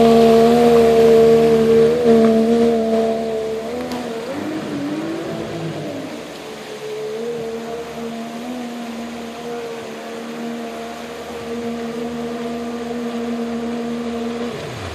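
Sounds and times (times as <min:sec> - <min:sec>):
outboard engine running: 0:00.0 - 0:14.9.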